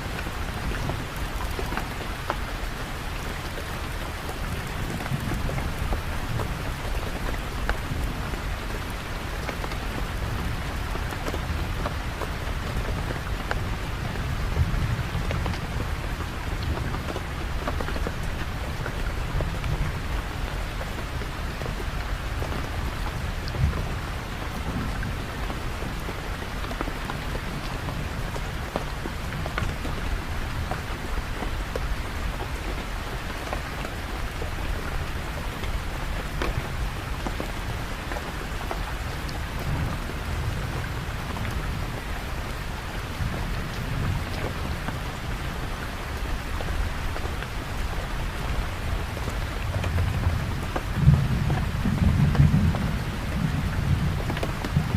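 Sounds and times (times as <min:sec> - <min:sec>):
heavy rain pattering: 0:00.0 - 0:54.9.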